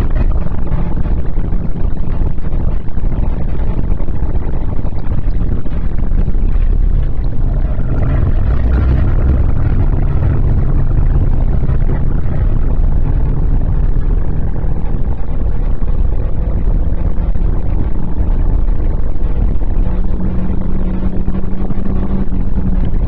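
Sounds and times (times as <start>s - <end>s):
car engine droning under load: 0.0s - 23.0s
wind and road noise: 0.0s - 23.0s.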